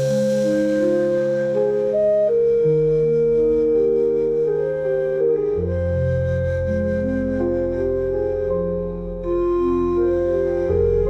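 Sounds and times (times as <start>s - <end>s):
slow meditation music: 0.0s - 11.0s
steady low drone: 0.0s - 11.0s.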